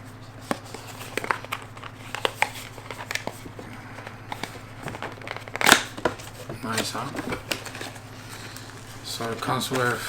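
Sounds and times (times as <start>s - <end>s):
steady low hum: 0.0s - 10.0s
packaging clicks and crinkles: 0.5s - 10.0s.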